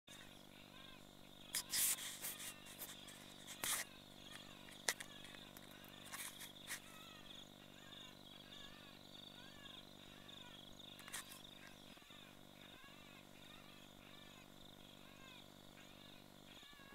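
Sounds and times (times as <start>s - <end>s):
crickets chirping: 0.1s - 16.9s.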